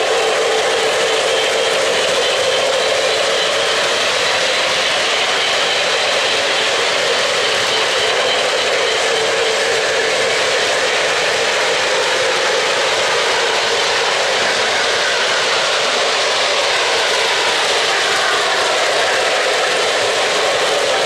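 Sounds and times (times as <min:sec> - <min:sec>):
locomotive whine: 0:00.0 - 0:21.0
model train wheels rumbling: 0:00.0 - 0:21.0.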